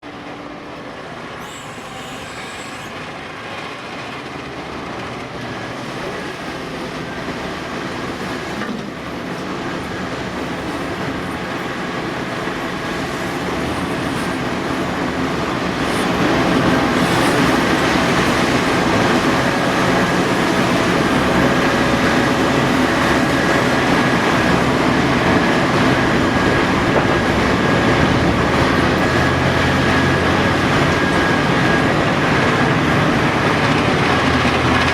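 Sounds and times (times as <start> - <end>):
diesel machinery droning: 0.0 - 34.9
steady whine: 0.0 - 34.9.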